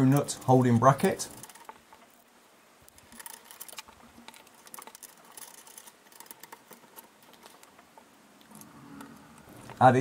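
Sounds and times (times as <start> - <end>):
small metal parts clicking: 0.0 - 9.8.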